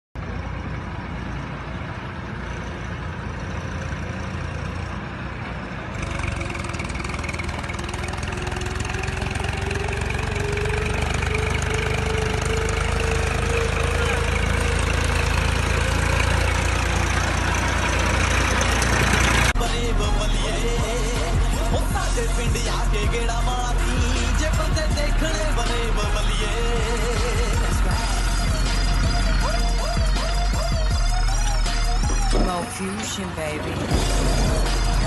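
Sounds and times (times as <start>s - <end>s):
tractor engine revving: 0.2s - 35.0s.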